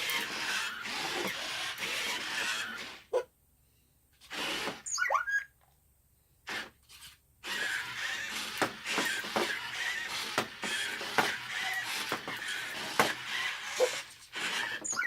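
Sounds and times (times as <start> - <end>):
toy robot motors whirring: 0.0 - 3.2, 4.2 - 5.4, 6.5 - 15.0.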